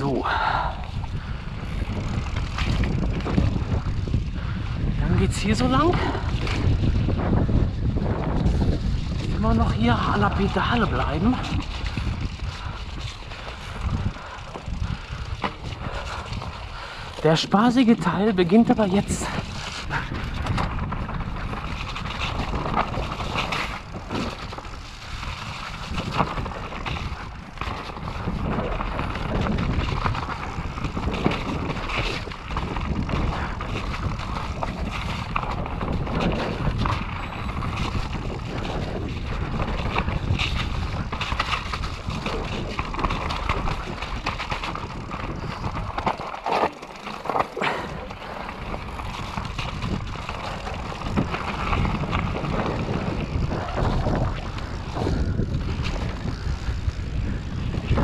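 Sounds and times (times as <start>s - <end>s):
bike tyres on dirt: 0.0s - 58.0s
wind buffeting microphone: 0.0s - 58.0s
bike knocking and rattling: 0.9s - 58.0s.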